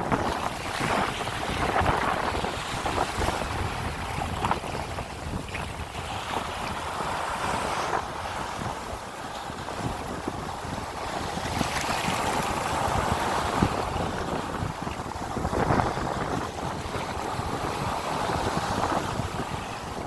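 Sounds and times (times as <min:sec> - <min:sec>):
ocean waves washing ashore: 0:00.0 - 0:20.0
wind buffeting microphone: 0:00.0 - 0:20.0.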